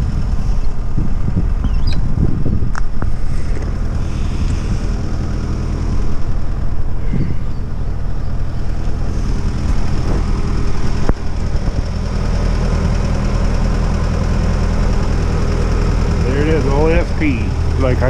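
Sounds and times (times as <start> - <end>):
rail motor car engine running: 0.0 - 18.0.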